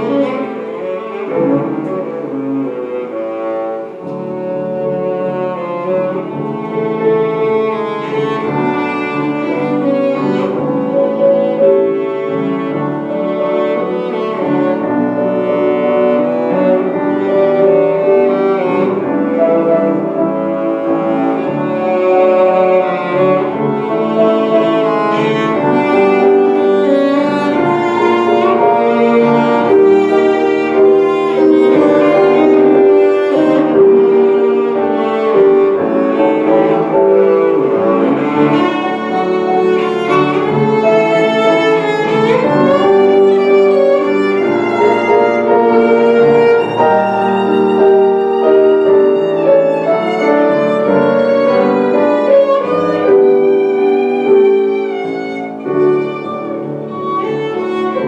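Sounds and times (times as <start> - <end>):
bowed string instrument melody: 0.0 - 58.0
piano accompaniment: 0.0 - 58.0.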